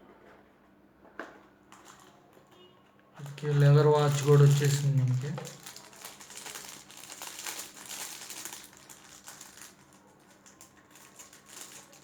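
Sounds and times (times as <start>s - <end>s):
packaging crinkling and rustling: 1.2s - 2.2s, 3.2s - 12.0s.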